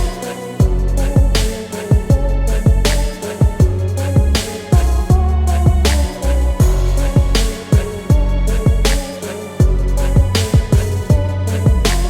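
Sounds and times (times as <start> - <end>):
hip-hop beat music: 0.0 - 12.0.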